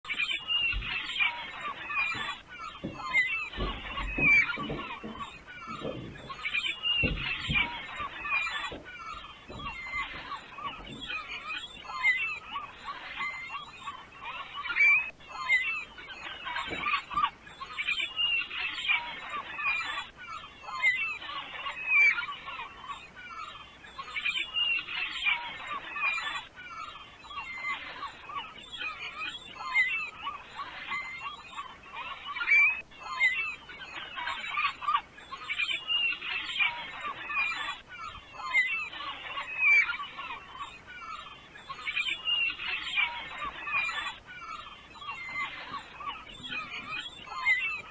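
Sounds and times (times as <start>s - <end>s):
flock of birds calling: 0.1s - 47.9s.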